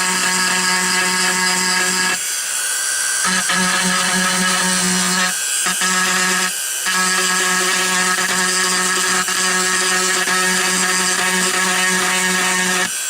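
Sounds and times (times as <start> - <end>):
rotary tool grinding plastic: 0.0 - 13.0.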